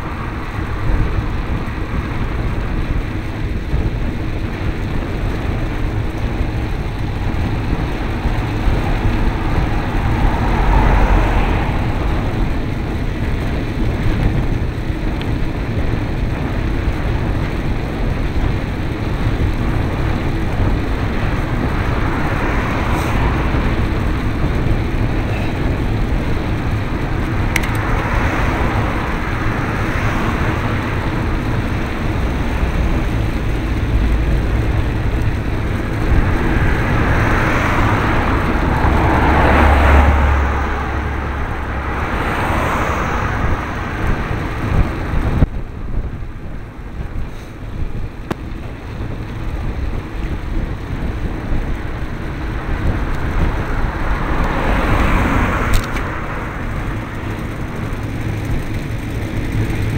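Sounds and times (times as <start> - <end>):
cars passing with tyre hiss: 0.0 - 59.9
road noise: 0.0 - 59.9
wind rumbling on microphone: 0.0 - 59.9.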